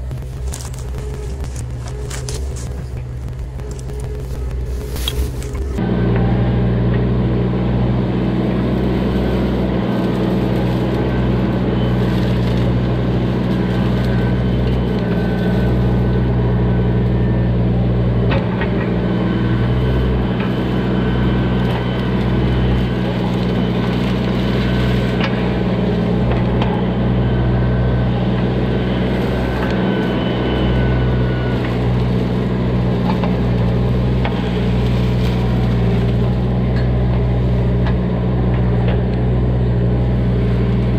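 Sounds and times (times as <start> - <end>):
excavator diesel engine running: 0.0 - 40.9
thin whine: 0.0 - 40.9.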